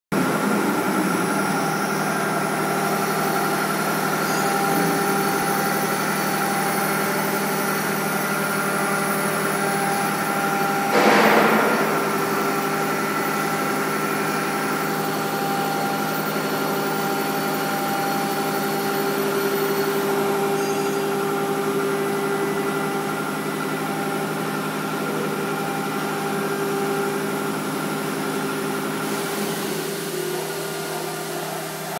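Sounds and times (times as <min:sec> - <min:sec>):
router spindle whining: 0:00.2 - 0:11.0, 0:11.8 - 0:28.8.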